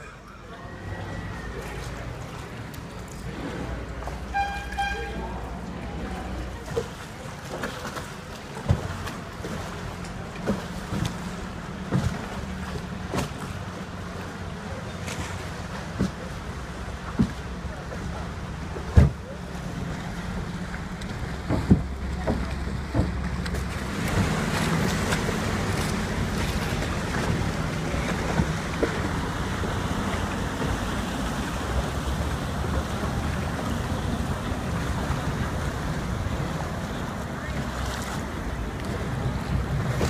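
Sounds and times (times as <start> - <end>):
motorboat rumble: 0.0 - 40.0
water lapping and splashing: 0.0 - 40.0.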